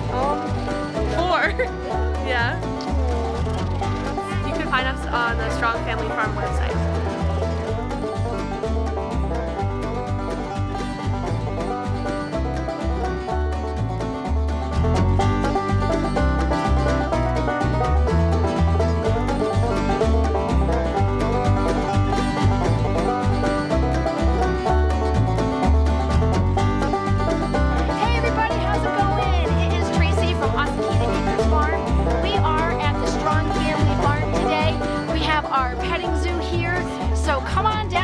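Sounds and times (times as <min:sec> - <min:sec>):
bass beat: 0:00.0 - 0:38.0
bluegrass music with banjo: 0:00.0 - 0:38.0.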